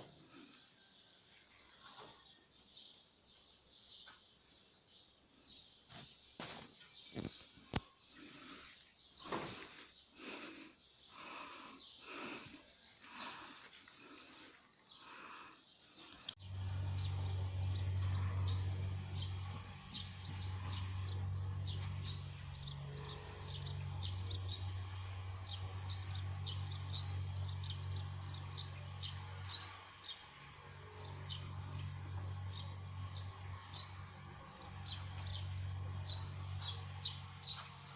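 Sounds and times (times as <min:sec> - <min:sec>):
bird chirping: 0:01.7 - 0:37.9.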